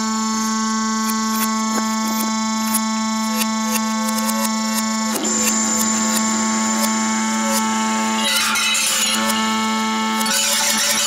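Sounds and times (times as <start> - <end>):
electronic drone of stacked tones: 0.0 - 11.0.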